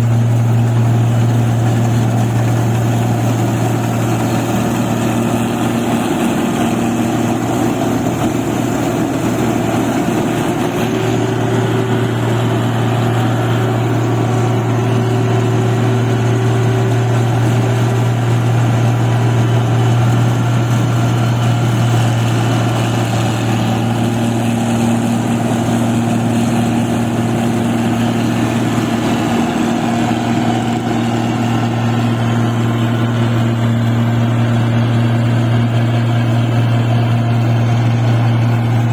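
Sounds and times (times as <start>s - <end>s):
machine engine running: 0.0s - 38.9s.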